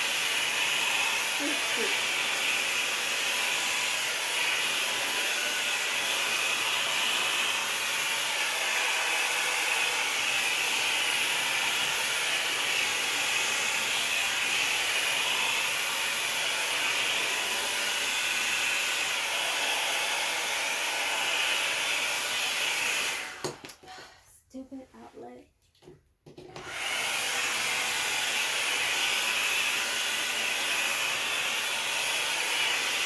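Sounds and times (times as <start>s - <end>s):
blow dryer running: 0.0s - 23.9s, 26.5s - 33.0s.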